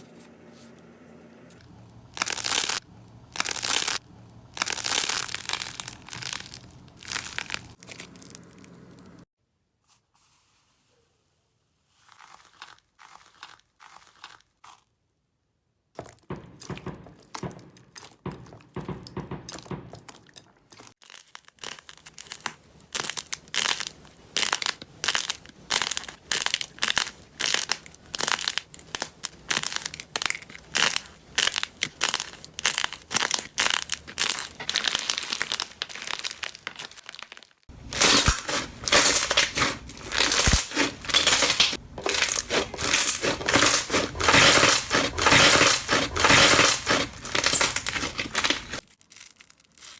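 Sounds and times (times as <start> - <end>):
crunchy slime being squeezed: 2.0 - 9.2, 11.9 - 14.9, 19.5 - 49.9.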